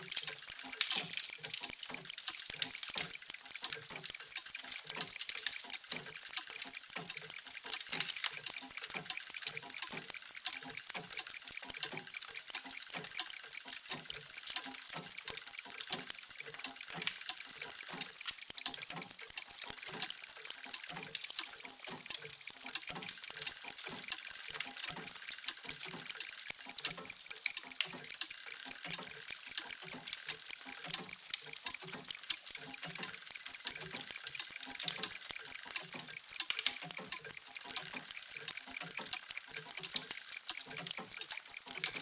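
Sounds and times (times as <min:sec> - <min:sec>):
mechanical clocks ticking: 0:00.0 - 0:42.0.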